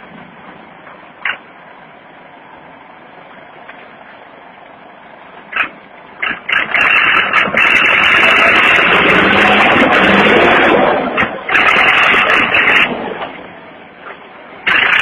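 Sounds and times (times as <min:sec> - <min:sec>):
tractor diesel engine: 0:00.0 - 0:15.0.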